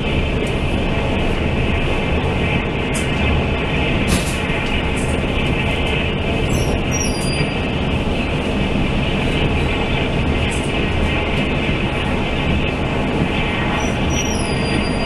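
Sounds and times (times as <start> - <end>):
train carriage running noise: 0.0 - 15.0.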